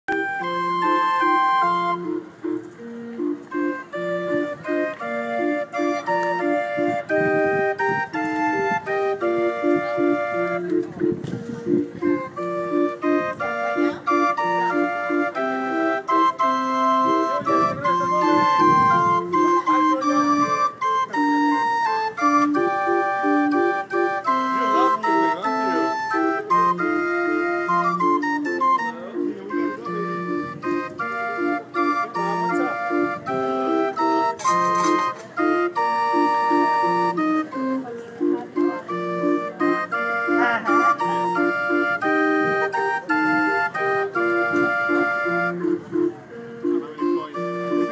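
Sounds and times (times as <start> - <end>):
barrel organ playing a tune: 0.0 - 47.9.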